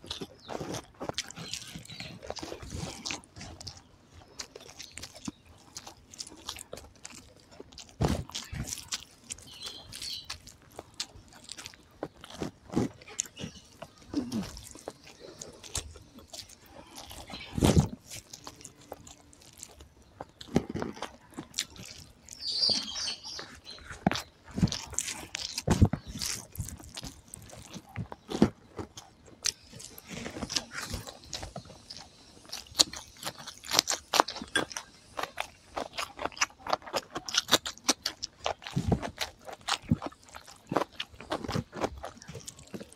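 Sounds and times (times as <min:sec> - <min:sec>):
chewing with wet mouth noises: 0:00.0 - 0:42.9.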